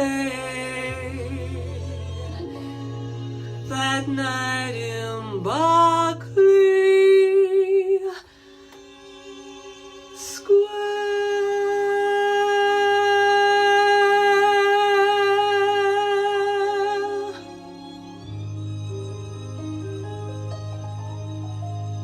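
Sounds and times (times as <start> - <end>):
person singing ballad: 0.0 - 18.3
soft musical accompaniment: 0.0 - 22.0.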